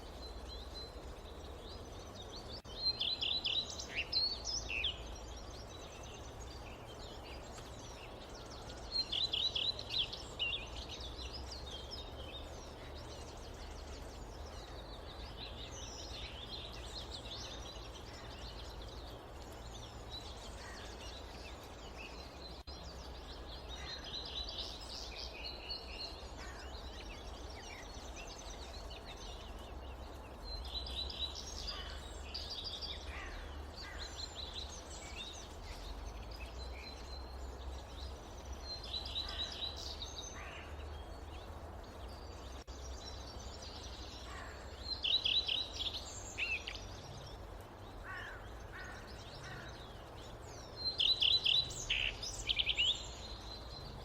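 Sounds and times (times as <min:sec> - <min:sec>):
birds chirping: 0:00.0 - 0:54.0
low wind rumble: 0:00.0 - 0:54.0.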